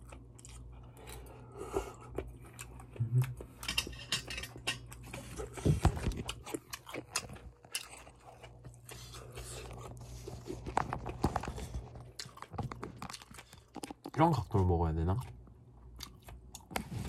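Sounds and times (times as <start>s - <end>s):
person chewing food: 0.0s - 14.5s, 15.1s - 17.0s.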